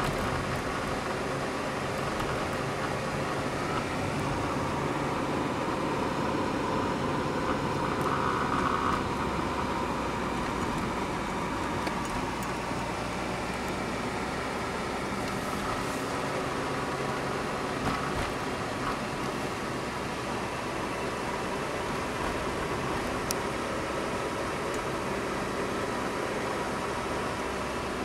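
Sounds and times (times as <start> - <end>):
car engine hum: 0.0 - 28.0
road noise inside car: 0.0 - 28.0.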